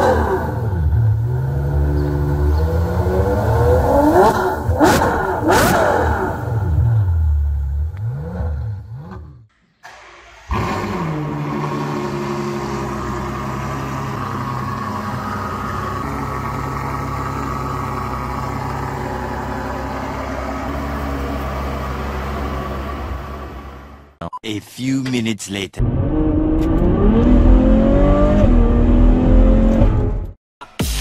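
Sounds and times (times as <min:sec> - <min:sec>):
engine revving: 0:00.0 - 0:24.0, 0:25.8 - 0:30.4
car engine starting and idling: 0:00.0 - 0:30.3.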